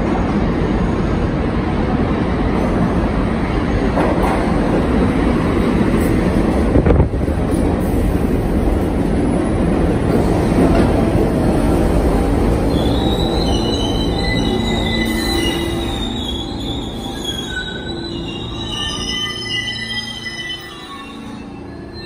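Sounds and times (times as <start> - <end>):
subway train wheels rumbling: 0.0 - 22.0.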